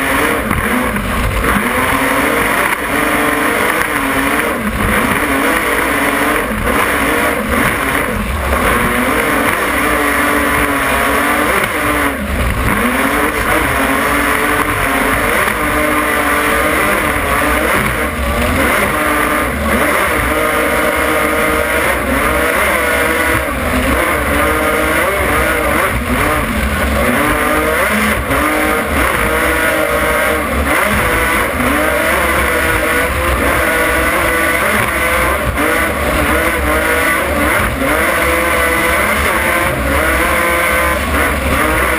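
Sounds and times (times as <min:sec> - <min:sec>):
powerboat engines roaring: 0:00.0 - 0:41.9.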